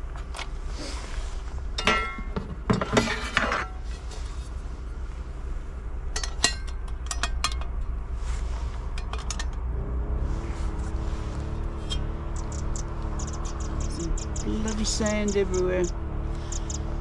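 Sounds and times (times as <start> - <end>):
low wavering hum: 0.0 - 17.0.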